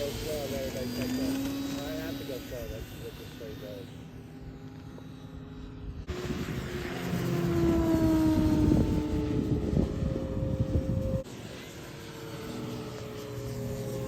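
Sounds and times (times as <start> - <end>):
model airplane engine flying past: 0.0 - 14.0.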